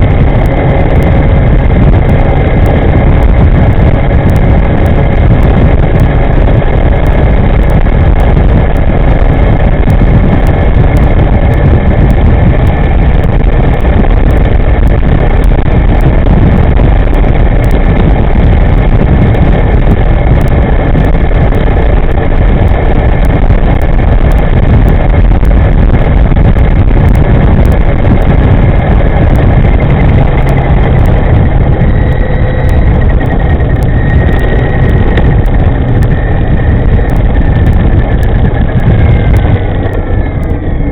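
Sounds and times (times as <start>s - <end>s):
high electric drive whine: 0.0s - 40.9s
wind rushing over microphone: 0.0s - 40.9s.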